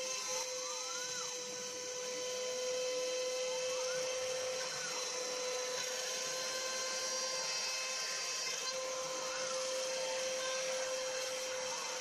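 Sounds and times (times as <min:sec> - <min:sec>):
router motor whine: 0:00.0 - 0:12.0
stepper motor tones: 0:00.0 - 0:12.0.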